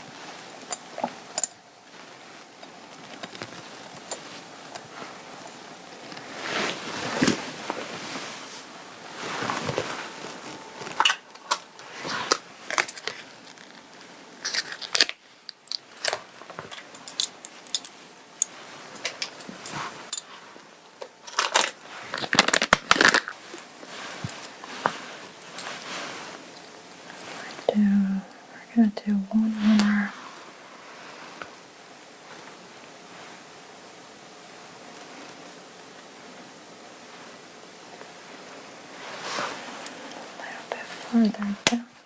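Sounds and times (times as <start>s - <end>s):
clothing fabric rustling: 0.0s - 28.0s, 29.4s - 33.4s, 37.1s - 42.0s.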